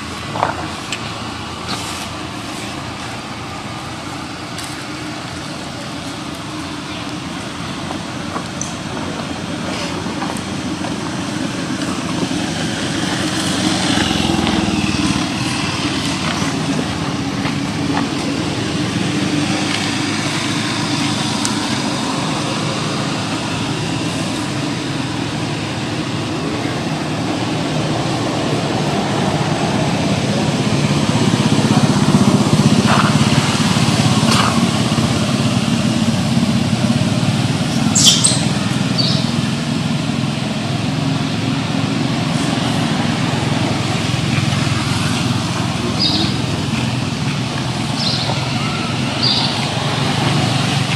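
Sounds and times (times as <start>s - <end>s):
motor vehicle rumble: 0.0s - 50.9s.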